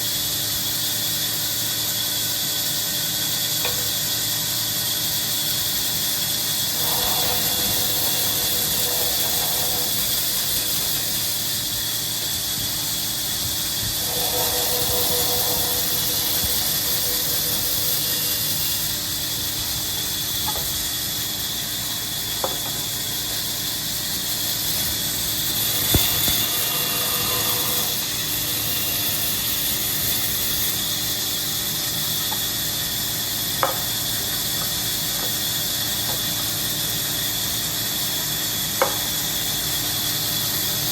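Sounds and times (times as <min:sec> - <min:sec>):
loud steady hiss: 0:00.0 - 0:40.9.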